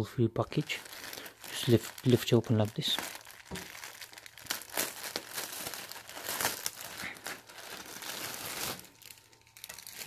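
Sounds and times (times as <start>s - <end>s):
plastic bag crinkling: 0.4s - 10.0s.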